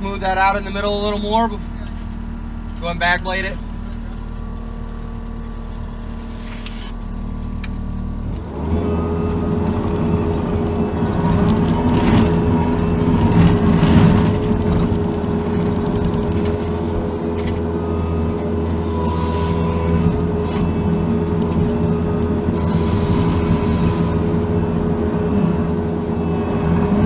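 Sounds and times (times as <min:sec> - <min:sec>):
diesel engine revving under load: 0:00.0 - 0:27.0.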